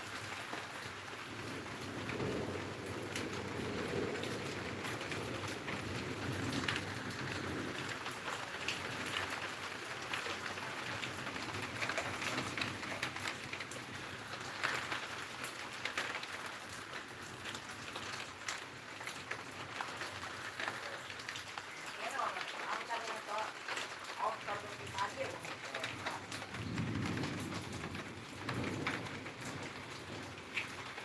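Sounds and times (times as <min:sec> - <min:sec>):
raindrops ticking: 0:00.0 - 0:31.0
steady rain hiss: 0:00.0 - 0:31.0.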